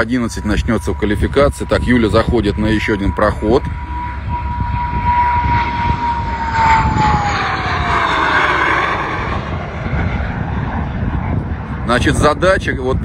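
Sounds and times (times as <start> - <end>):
jet engine whine: 0.0 - 13.0
jet noise rushing: 0.0 - 13.0.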